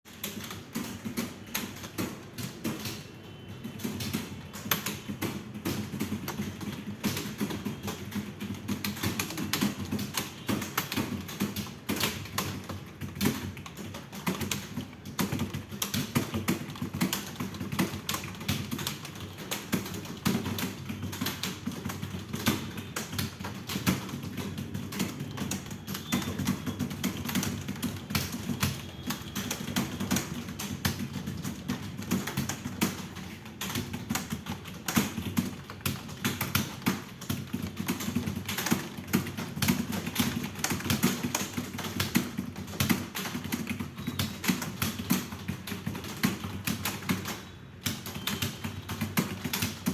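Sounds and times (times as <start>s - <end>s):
fast keyboard typing: 0.1s - 49.9s.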